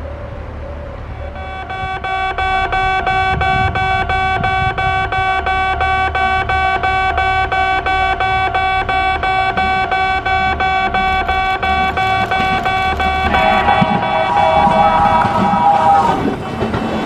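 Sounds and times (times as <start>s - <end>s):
train rumble: 0.0s - 17.0s
level crossing warning bell: 1.0s - 16.8s.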